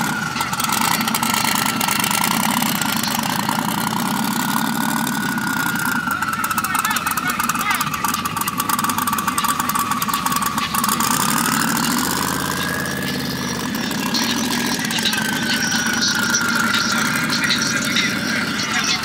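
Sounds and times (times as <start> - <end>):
vehicle engine whining: 0.0 - 19.0.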